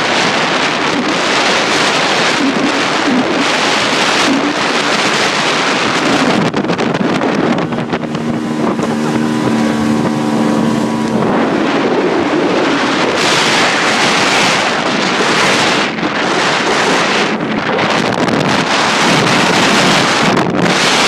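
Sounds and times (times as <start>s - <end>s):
motorboat engine hum: 0.0s - 21.0s
rush of wind and water: 0.0s - 21.0s
wind buffeting microphone: 0.0s - 21.0s.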